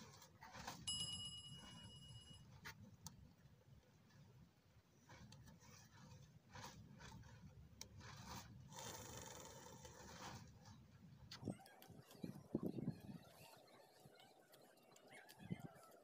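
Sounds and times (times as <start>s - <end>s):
faint rubbing and scraping: 0.0s - 16.0s.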